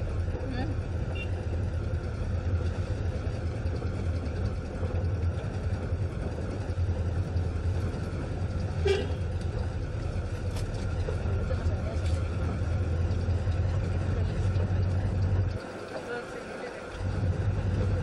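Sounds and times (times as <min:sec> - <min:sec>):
car engine rumble: 0:00.0 - 0:18.0
road noise: 0:00.0 - 0:18.0.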